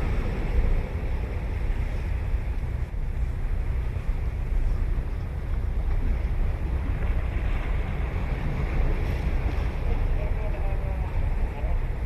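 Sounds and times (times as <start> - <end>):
ocean surf washing ashore: 0.0 - 12.0
wind buffeting microphone: 0.0 - 12.0.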